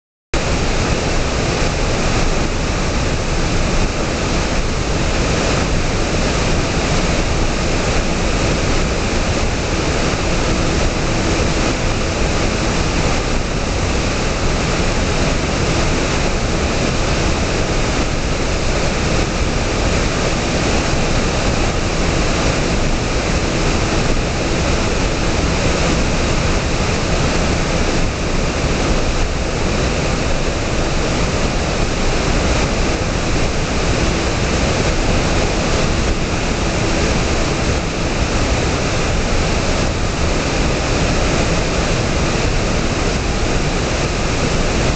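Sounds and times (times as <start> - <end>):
waterfall rushing into pool: 0.4 - 44.9.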